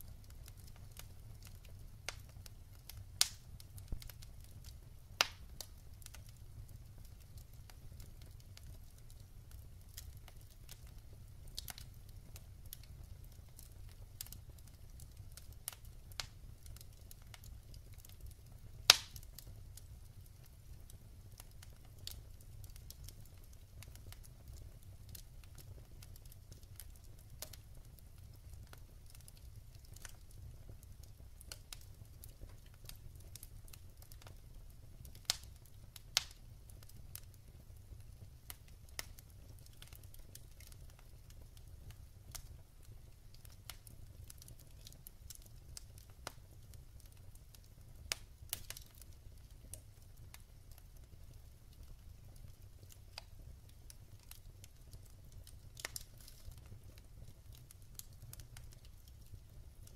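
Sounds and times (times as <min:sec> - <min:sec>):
burning logs popping: 0:00.0 - 0:59.9
wood fire crackling: 0:00.0 - 0:59.9.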